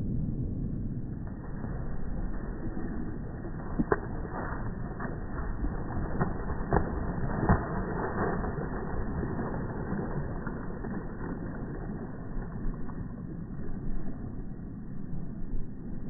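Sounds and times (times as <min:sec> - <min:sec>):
slowed wings flapping: 0:01.2 - 0:14.3.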